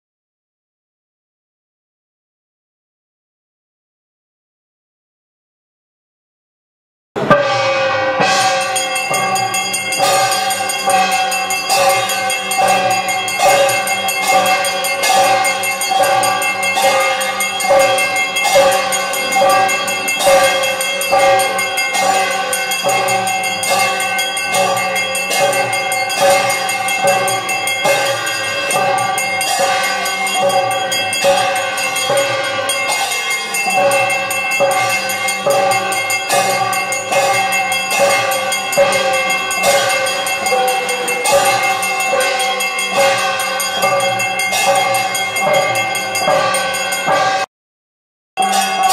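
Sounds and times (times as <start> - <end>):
brass hand bell ringing: 7.2 - 47.5, 48.4 - 48.9.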